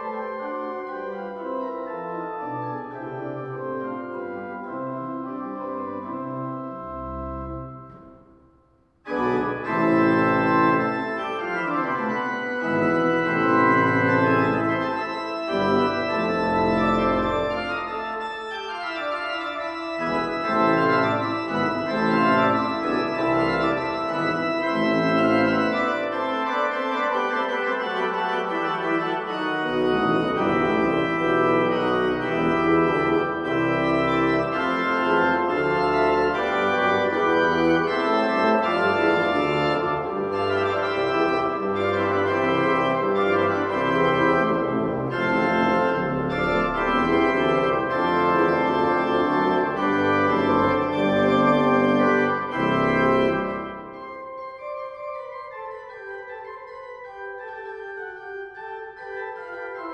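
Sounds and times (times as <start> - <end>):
organ playing: 0.0 - 59.9.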